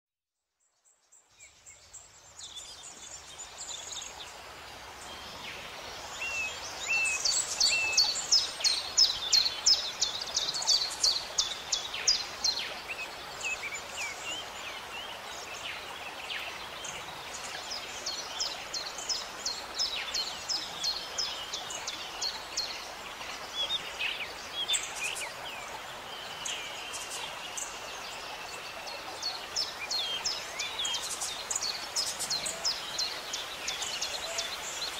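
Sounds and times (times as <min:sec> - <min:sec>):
steady outdoor hiss: 0:00.5 - 0:34.9
songbirds singing: 0:00.6 - 0:34.9.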